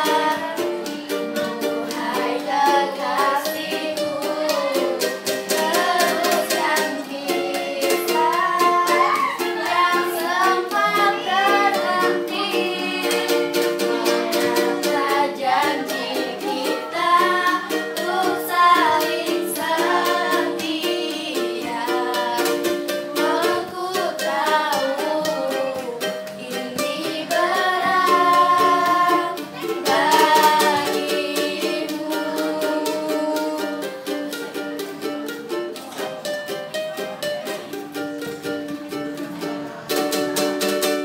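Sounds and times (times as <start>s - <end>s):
girls singing together: 0.0s - 36.0s
ukulele strumming: 0.0s - 41.0s.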